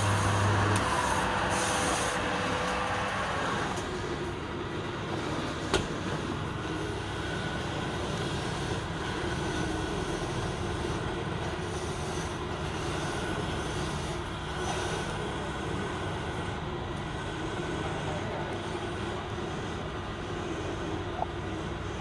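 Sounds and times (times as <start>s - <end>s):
workshop machinery droning: 0.0s - 22.0s.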